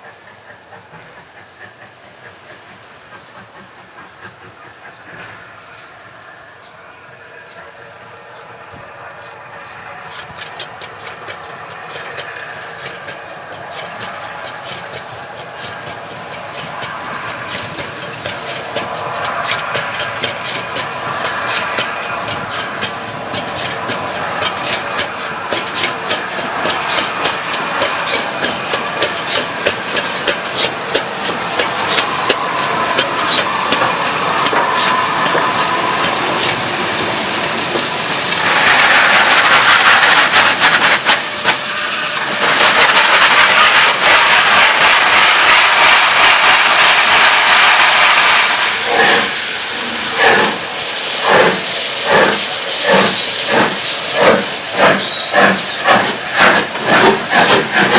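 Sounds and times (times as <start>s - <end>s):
hiss of steam: 0.0s - 57.9s
steam locomotive beats: 0.0s - 57.9s.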